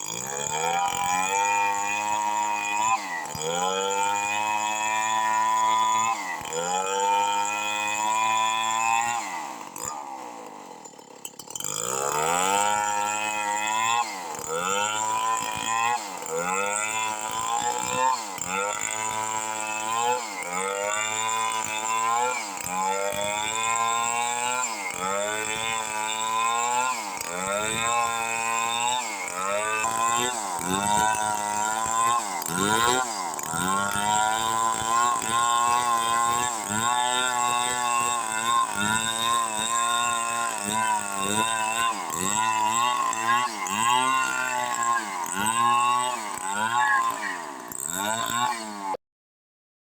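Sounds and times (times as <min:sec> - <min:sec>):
chainsaw cutting log: 0:00.0 - 0:49.0.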